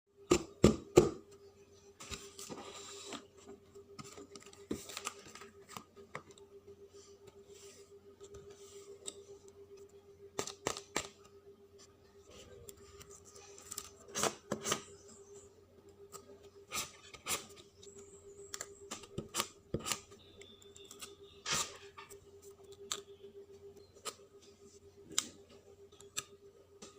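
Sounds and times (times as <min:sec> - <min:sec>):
faint steady hum: 0:00.1 - 0:26.9.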